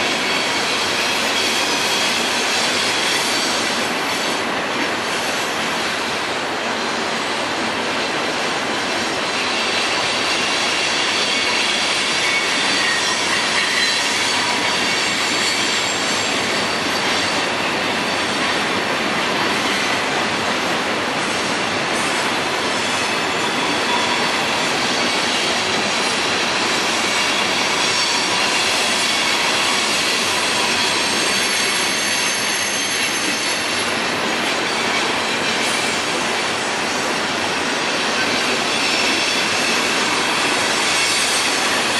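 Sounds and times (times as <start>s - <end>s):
freight train rolling on rails: 0.0s - 41.9s
high thin wheel squeal: 0.1s - 4.4s, 8.8s - 18.6s, 21.4s - 37.1s, 37.8s - 41.9s.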